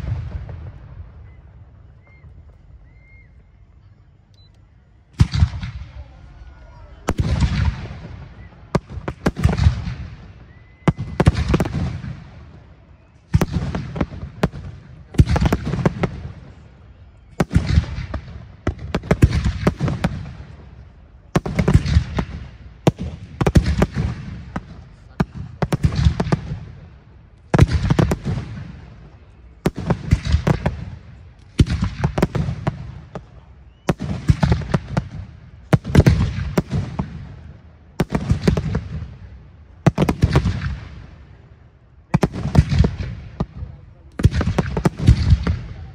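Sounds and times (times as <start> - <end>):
firework bangs echoing: 0.0 - 1.3, 7.0 - 12.6, 13.3 - 16.7, 17.3 - 26.9, 27.5 - 41.2, 42.1 - 45.9.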